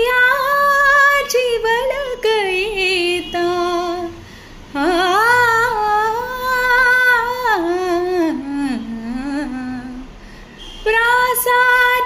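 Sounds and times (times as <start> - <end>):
woman singing wordless notes: 0.0 - 10.1, 10.8 - 12.0.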